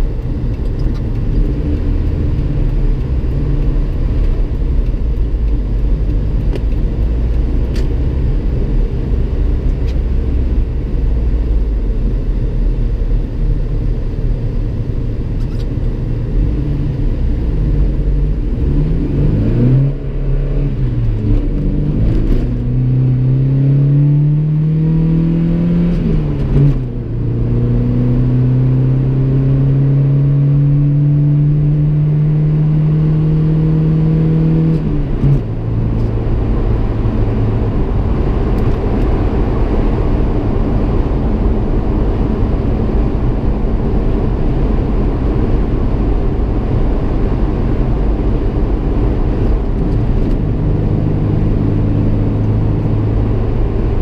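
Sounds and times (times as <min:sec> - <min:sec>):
engine accelerating from inside cab: 0:00.0 - 0:54.0
road noise: 0:00.0 - 0:54.0.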